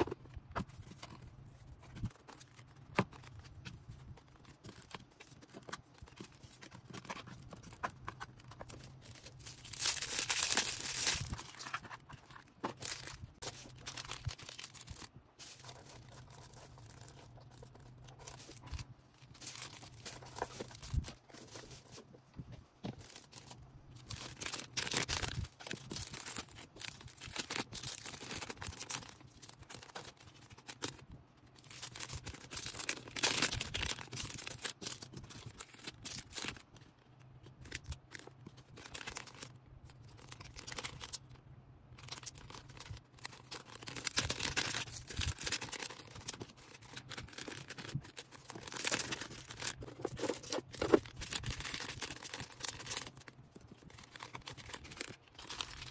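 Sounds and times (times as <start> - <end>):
packing materials crinkling: 0.0 - 41.3, 42.0 - 55.9.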